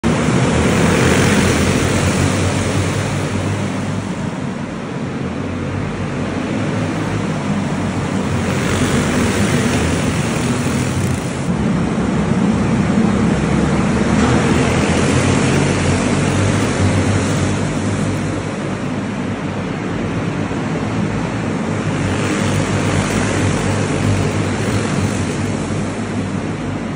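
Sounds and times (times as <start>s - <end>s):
kart engines racing: 0.0s - 26.9s.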